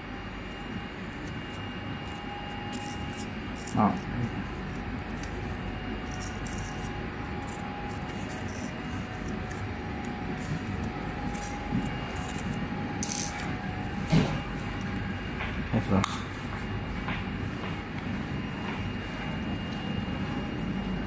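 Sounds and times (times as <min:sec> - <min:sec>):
machinery hum with whine: 0:00.0 - 0:21.0.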